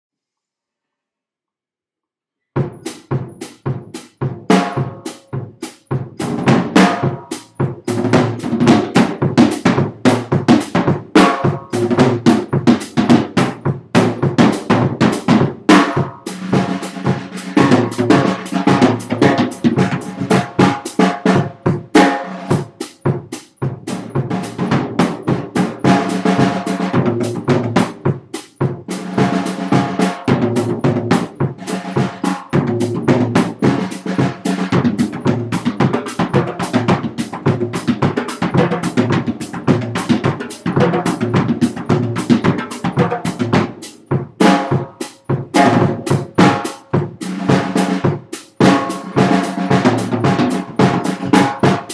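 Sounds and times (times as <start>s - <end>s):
drum kit playing: 2.6s - 51.9s.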